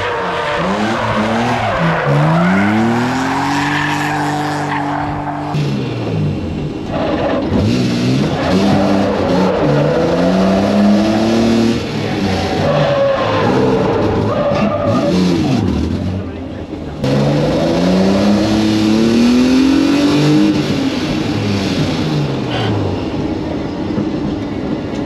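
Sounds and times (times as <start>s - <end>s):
car engine revving: 0.0s - 23.6s.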